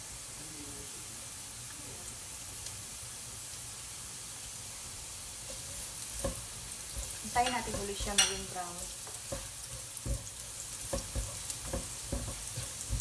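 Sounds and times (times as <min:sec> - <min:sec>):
garlic and ginger sizzling in oil: 0:00.0 - 0:13.0.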